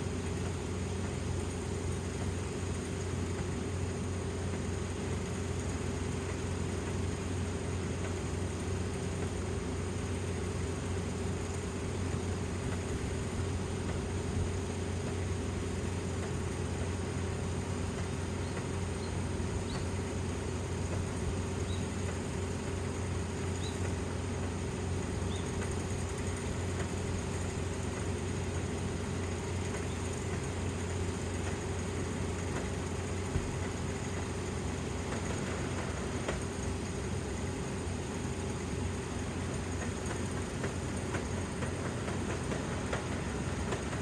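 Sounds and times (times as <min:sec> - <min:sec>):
combine harvester engine humming: 0:00.0 - 0:44.0.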